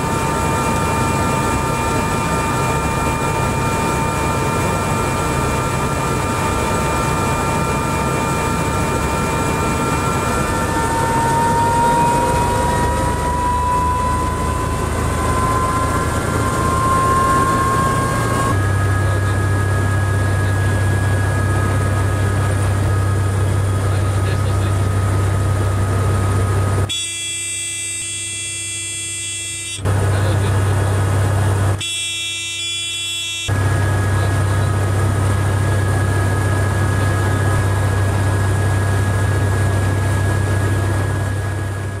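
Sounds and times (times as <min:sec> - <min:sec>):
steady buzzing tone: 0:00.0 - 0:41.9
helicopter engine and rotor: 0:00.0 - 0:42.0.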